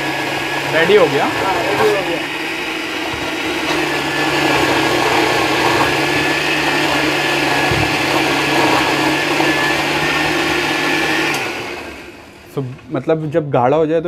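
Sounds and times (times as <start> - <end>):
electric mixer grinder running: 0.0 - 12.5.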